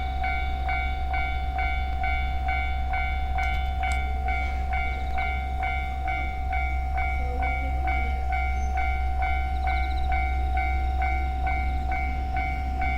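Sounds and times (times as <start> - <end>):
level crossing warning bell: 0.0 - 12.9.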